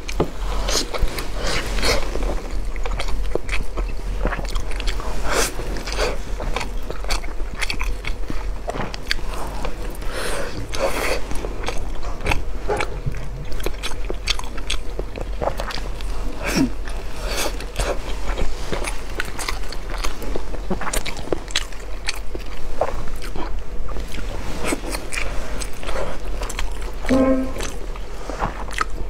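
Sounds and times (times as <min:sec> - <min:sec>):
chewing sticky rice: 0:00.0 - 0:29.0.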